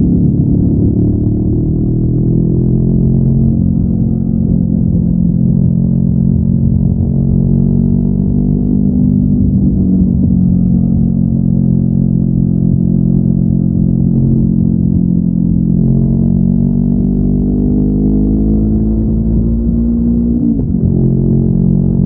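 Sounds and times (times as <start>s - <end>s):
motorcycle engine revving under load: 0.0s - 22.0s.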